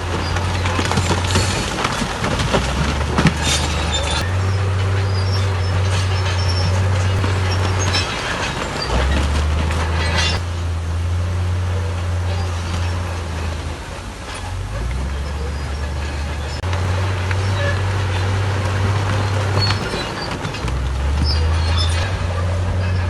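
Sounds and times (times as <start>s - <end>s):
heavy diesel machinery engine drone: 0.0s - 23.0s
metallic clanks and squeals: 0.0s - 23.0s.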